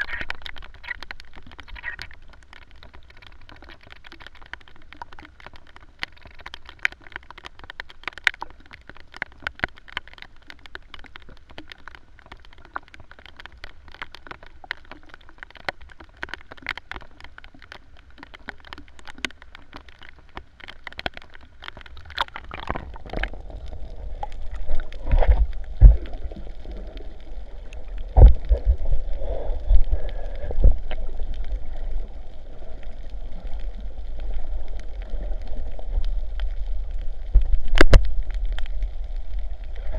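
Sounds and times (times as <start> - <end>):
low rumbling water: 0.0 - 39.9
rain falling on water: 0.0 - 39.9
water splashing on microphone: 0.0 - 39.9.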